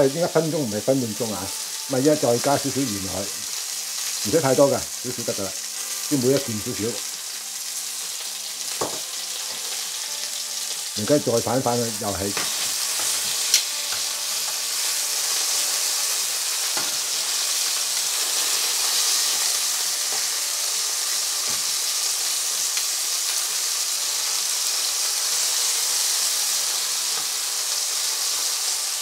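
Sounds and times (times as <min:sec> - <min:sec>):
meat sizzling in frying pan: 0:00.0 - 0:29.0.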